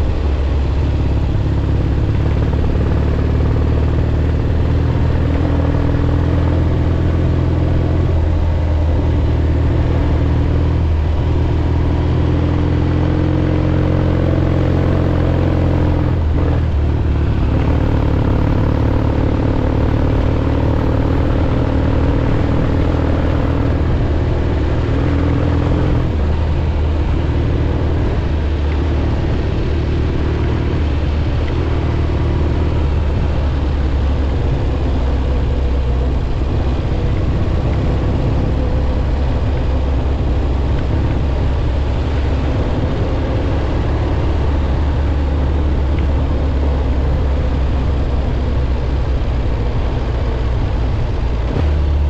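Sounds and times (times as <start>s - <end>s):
motorcycle engine cruising: 0.0s - 52.0s
wind and road noise: 0.0s - 52.0s.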